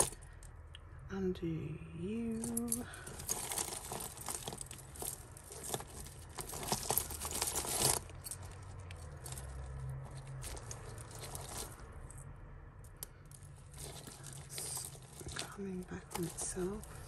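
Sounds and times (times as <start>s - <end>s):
jewellery chains clinking: 0.0s - 0.5s, 2.2s - 12.2s, 12.8s - 17.0s.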